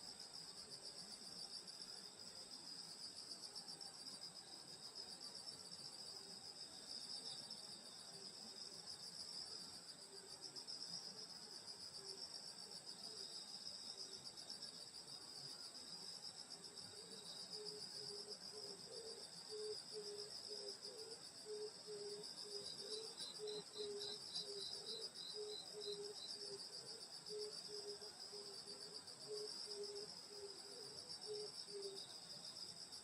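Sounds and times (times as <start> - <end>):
higher insect chirps: 4.2 - 33.0
crickets trilling: 4.3 - 33.0.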